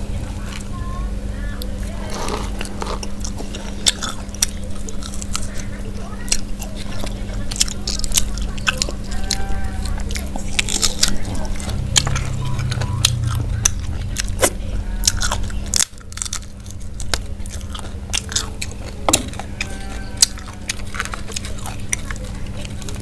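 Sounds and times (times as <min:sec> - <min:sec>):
chewing crunchy fried chicken: 0:00.0 - 0:23.0
low hum: 0:00.0 - 0:23.0.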